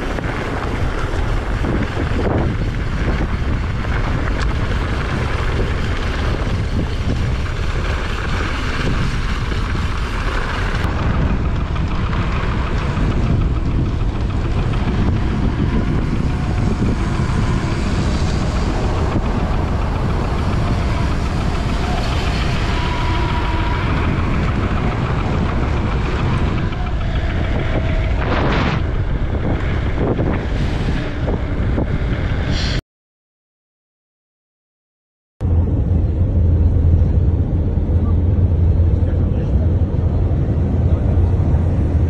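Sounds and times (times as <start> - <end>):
wind rushing over microphone: 0.0 - 32.8, 35.4 - 42.0.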